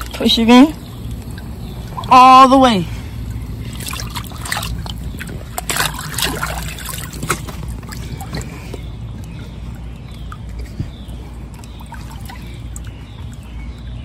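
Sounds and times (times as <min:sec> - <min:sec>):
steady low hum: 0:00.0 - 0:14.0
water sloshing and trickling: 0:00.0 - 0:14.0.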